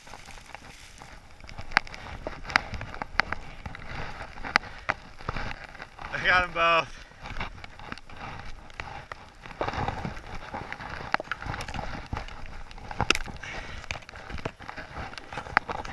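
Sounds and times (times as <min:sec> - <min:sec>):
ski gear knocks and clicks: 0:00.0 - 0:15.9
snow crunching and shuffling: 0:00.0 - 0:15.9.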